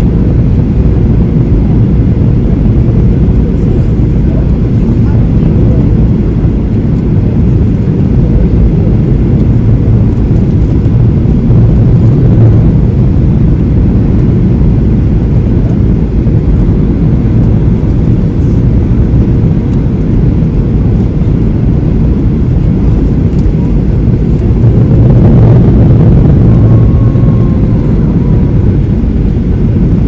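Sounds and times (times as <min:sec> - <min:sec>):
jet engines rumbling in cabin: 0:00.0 - 0:30.0
rushing air: 0:00.0 - 0:30.0.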